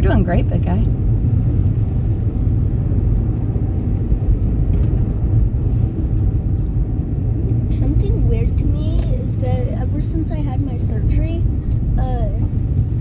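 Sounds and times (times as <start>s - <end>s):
car engine noise: 0.0s - 13.0s
road rumble inside car: 0.0s - 13.0s.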